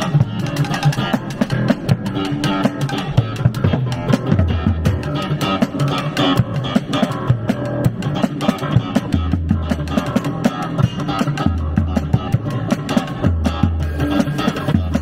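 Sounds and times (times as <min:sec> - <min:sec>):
guitar-led band music: 0:00.0 - 0:15.0.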